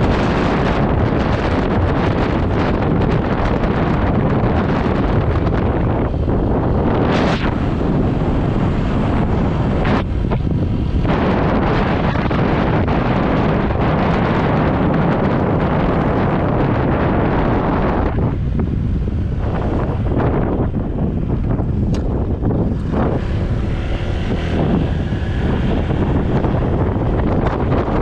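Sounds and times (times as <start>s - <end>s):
road noise: 0.0s - 28.0s
scooter engine: 0.0s - 28.0s
wind buffeting microphone: 0.0s - 28.0s.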